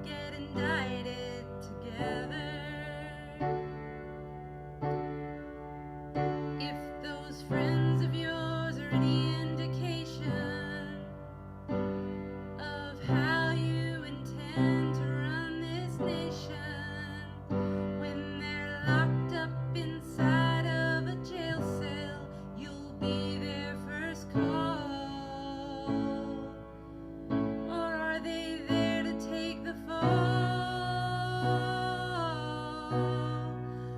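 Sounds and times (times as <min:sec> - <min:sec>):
piano chords: 0:00.0 - 0:33.9.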